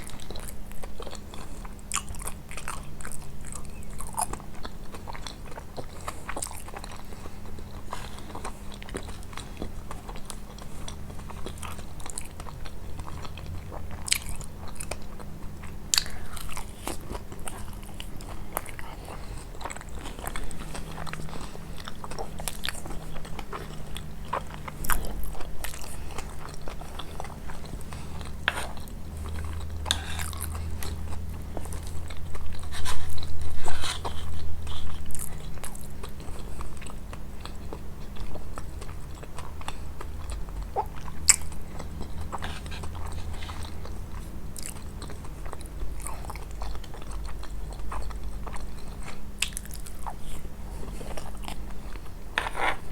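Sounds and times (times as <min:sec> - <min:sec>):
chewing crunchy pastry: 0:00.0 - 0:52.9.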